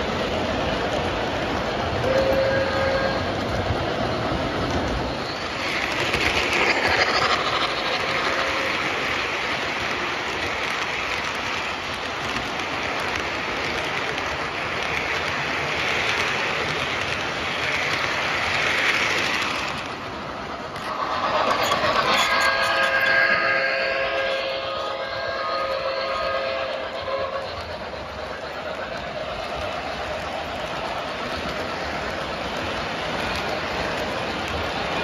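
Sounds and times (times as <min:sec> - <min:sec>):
model train wheels rumbling: 0:00.0 - 0:35.0
train wheels clickety-clack: 0:00.0 - 0:35.0.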